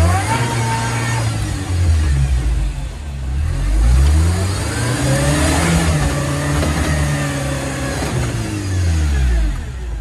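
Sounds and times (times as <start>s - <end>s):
engine revving hard: 0.0s - 2.4s, 3.4s - 9.6s.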